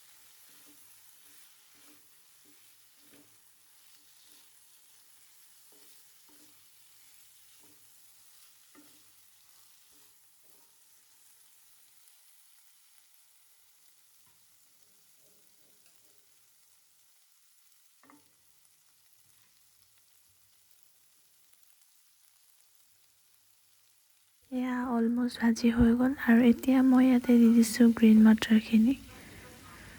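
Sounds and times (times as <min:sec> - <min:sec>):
potatoes sizzling in a pan: 0:00.0 - 0:29.9.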